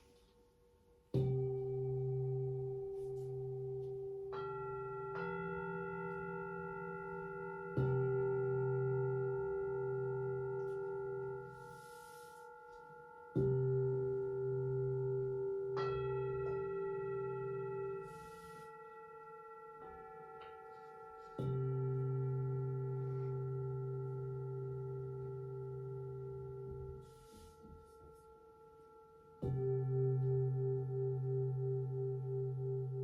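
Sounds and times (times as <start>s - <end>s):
higher singing bowls ringing: 1.1s - 33.0s
low singing bowl ringing: 1.1s - 33.0s.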